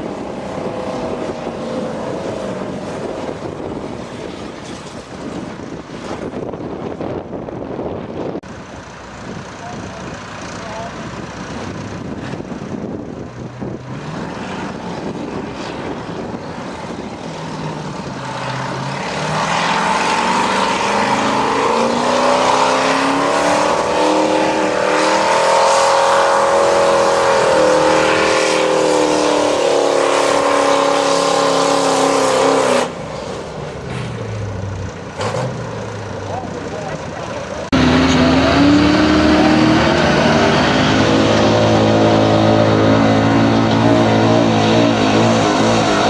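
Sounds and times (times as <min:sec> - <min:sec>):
truck engine at full throttle: 0:00.0 - 0:46.0.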